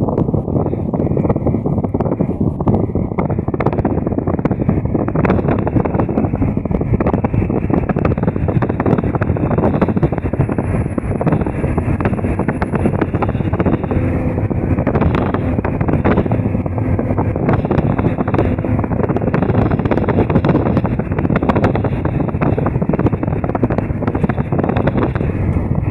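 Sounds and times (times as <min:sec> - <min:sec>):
bus rumbling from inside: 0:00.0 - 0:25.9.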